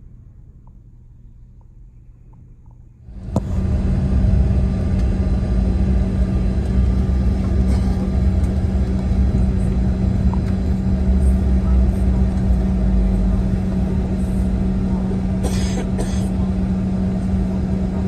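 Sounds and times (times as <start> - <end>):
jet engines rumbling: 3.0 - 18.0.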